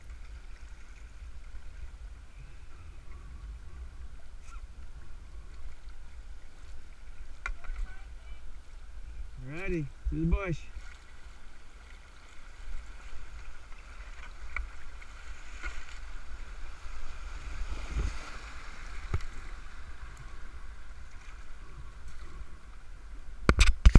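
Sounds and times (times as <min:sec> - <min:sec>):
paddle strokes in water: 0:00.0 - 0:09.4, 0:10.6 - 0:23.6
river water rushing and splashing: 0:04.3 - 0:23.6.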